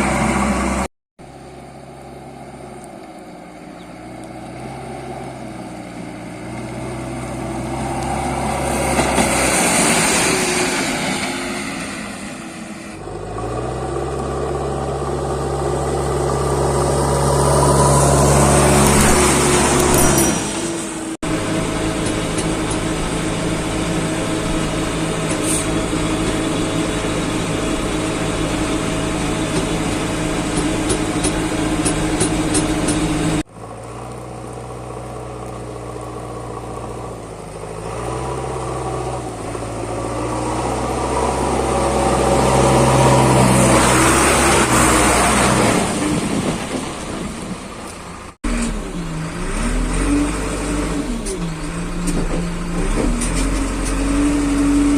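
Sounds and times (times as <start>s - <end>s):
heavy machinery diesel engine: 0.0s - 54.9s.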